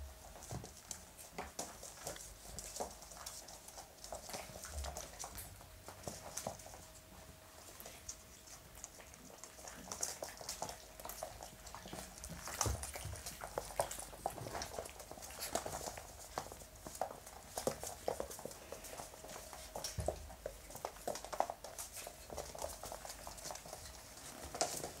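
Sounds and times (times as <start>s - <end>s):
puppy paws tapping and clicking: 0.0s - 25.0s.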